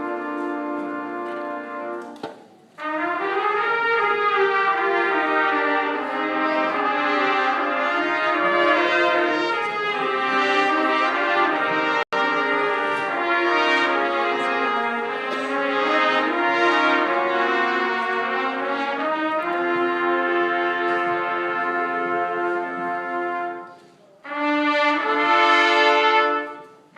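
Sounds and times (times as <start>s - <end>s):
brass band chords: 0.0s - 26.9s.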